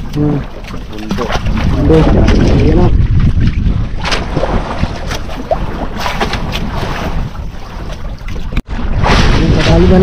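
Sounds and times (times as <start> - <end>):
sea and boat noise: 0.0 - 10.0
wind rumbling on microphone: 0.0 - 10.0.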